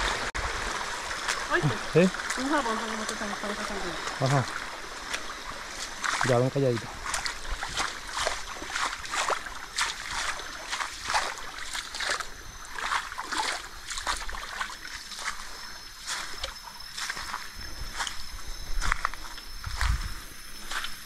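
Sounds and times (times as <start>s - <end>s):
footsteps wading through water: 0.0s - 21.0s.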